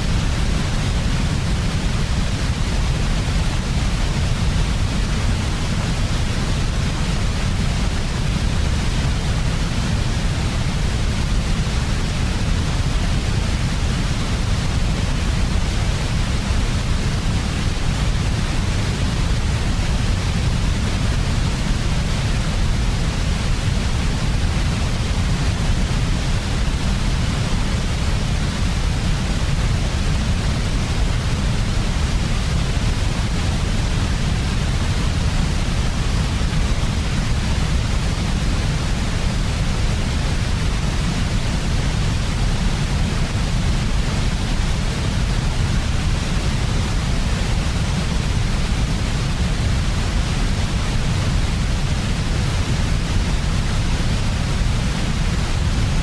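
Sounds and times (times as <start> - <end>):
steady white noise with low rumble: 0.0 - 56.0.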